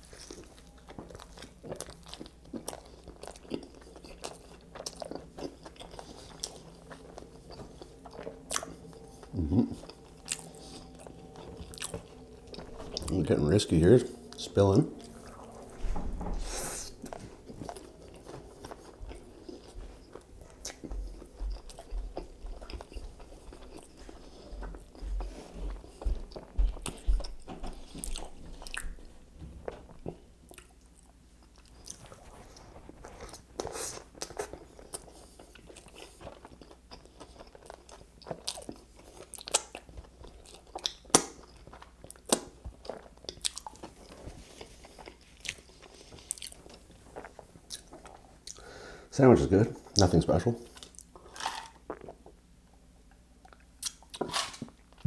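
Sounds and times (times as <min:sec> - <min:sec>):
person chewing crunchy food: 0:00.0 - 0:15.7, 0:16.4 - 0:48.8, 0:50.7 - 0:52.4, 0:53.1 - 0:55.0.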